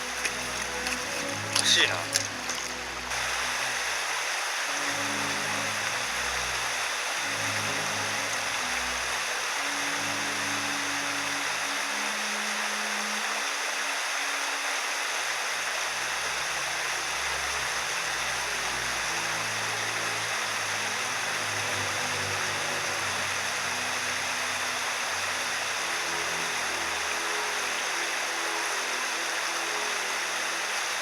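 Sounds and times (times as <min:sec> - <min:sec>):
soft background music: 0:00.0 - 0:31.0
water rushing over rocks: 0:00.0 - 0:31.0.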